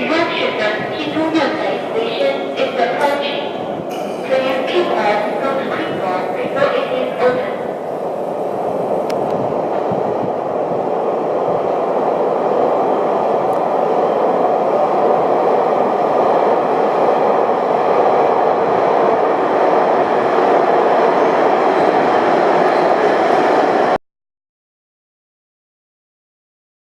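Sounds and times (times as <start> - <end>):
subway train running on rails: 0.0 - 24.0.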